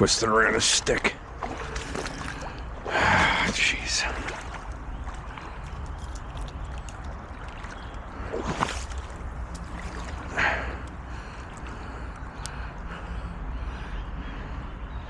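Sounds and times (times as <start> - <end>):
creek water running: 0.0 - 12.5
wind rumble on microphone: 1.2 - 15.0.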